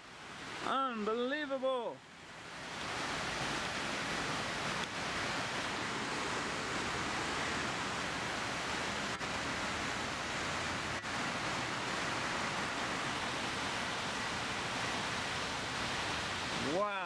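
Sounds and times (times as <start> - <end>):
rain and hail falling: 2.4 - 17.0.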